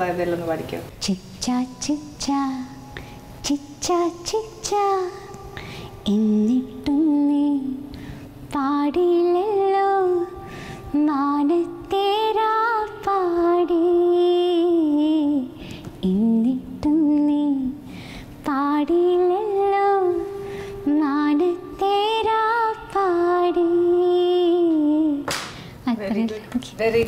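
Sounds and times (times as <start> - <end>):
woman singing slow melody: 0.9 - 25.3.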